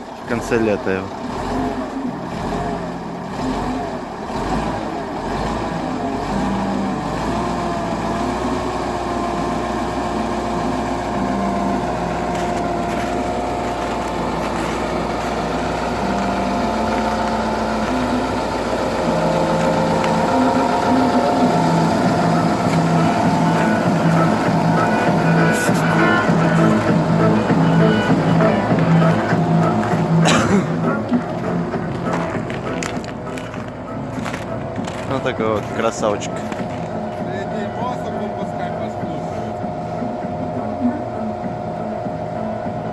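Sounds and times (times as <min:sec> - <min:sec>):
tractor diesel engine running: 0:00.0 - 0:42.9
music playing: 0:08.4 - 0:42.9.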